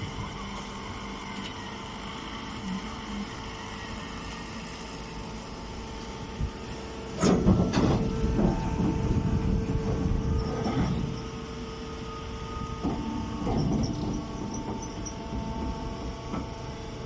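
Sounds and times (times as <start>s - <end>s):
motor and pump hum: 0.0s - 17.0s.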